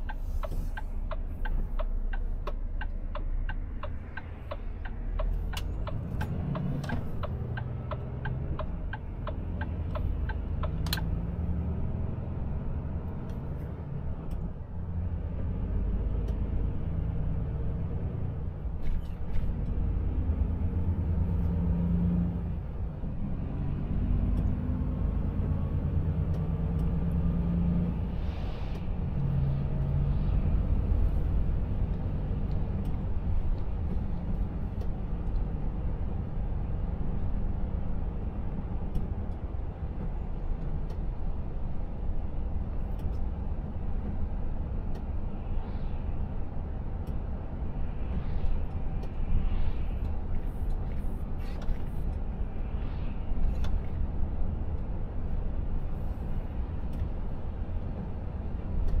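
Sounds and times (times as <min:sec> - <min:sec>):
diesel truck engine drone: 0:00.0 - 0:59.0
tyre road noise: 0:00.0 - 0:59.0.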